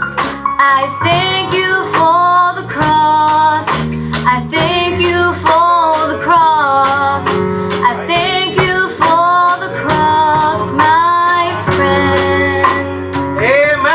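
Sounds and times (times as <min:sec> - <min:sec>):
woman singing: 0:00.6 - 0:13.2.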